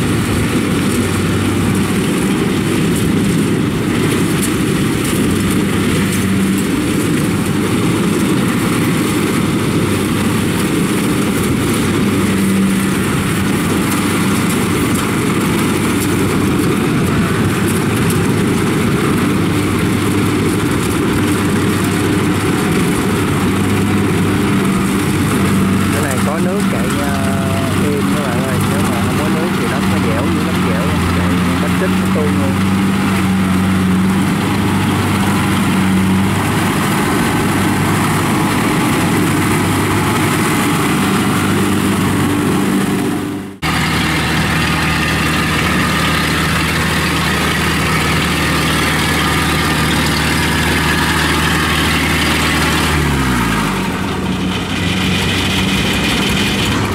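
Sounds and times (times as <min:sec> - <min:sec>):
combine harvester diesel engine drone: 0:00.0 - 0:56.9
cutting and threshing machinery: 0:00.0 - 0:56.9.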